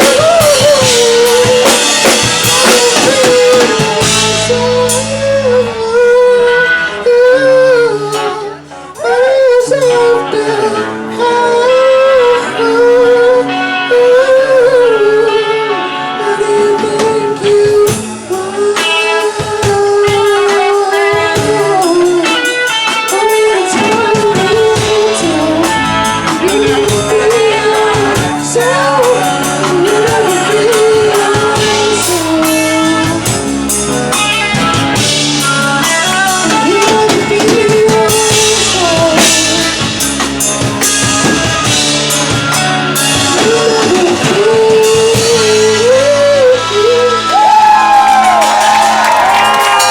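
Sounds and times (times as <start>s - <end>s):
drum kit: 0.0s - 10.9s, 16.5s - 49.9s
guitar: 0.0s - 49.9s
live band playing: 0.0s - 49.9s.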